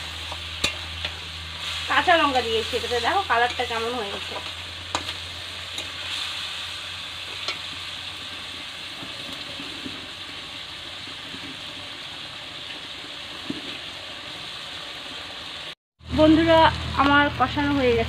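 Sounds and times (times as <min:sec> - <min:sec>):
curry sizzling in hot oil: 0:00.0 - 0:18.0.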